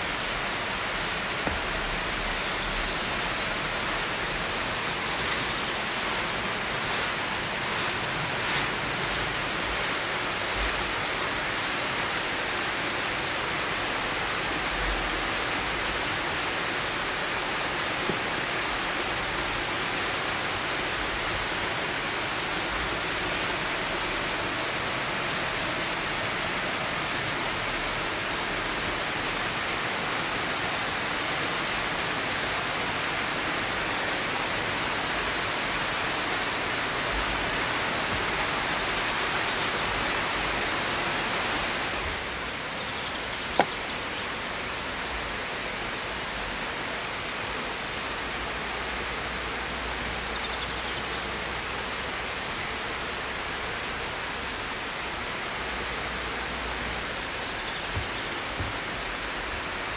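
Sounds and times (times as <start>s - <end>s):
rushing flowing water: 0.0s - 59.9s.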